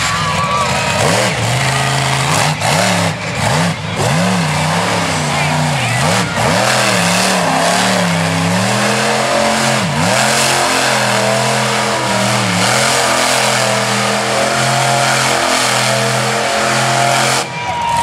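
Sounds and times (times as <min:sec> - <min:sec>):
truck engine revving high: 0:00.0 - 0:18.0.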